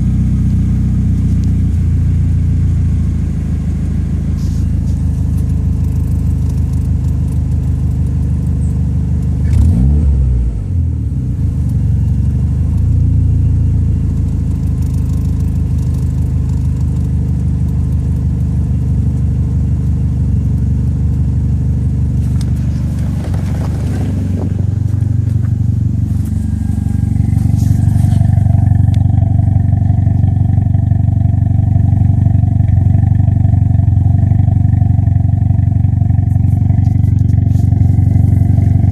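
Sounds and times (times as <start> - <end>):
car engine misfiring: 0.9 - 38.9.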